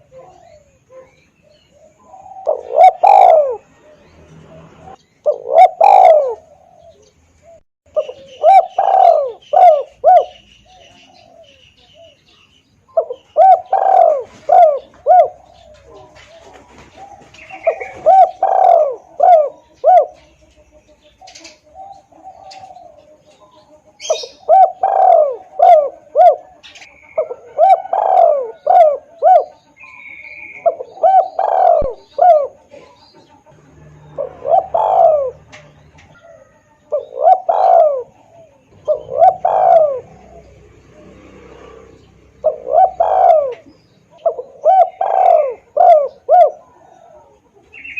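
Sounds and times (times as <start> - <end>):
dove cooing: 0.0 - 12.3, 12.9 - 47.9
small birds chirping: 0.0 - 47.9.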